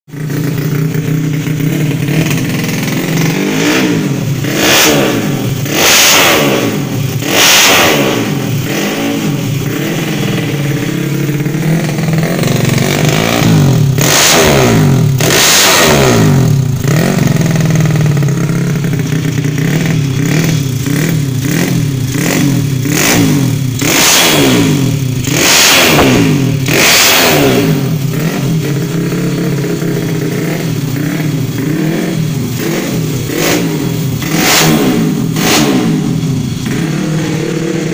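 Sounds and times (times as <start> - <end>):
motorcycle engine revving: 0.1 - 37.9.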